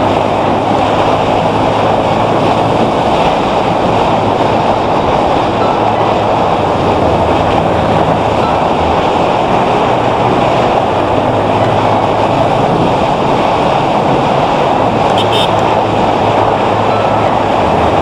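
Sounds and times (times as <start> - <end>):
wind rush on microphone: 0.0 - 18.0.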